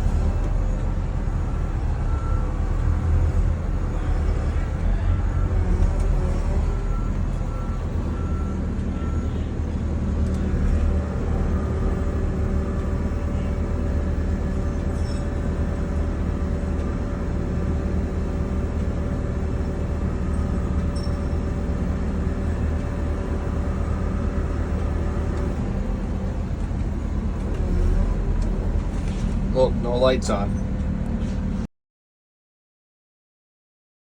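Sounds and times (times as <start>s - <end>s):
diesel engine running: 0.0s - 31.7s.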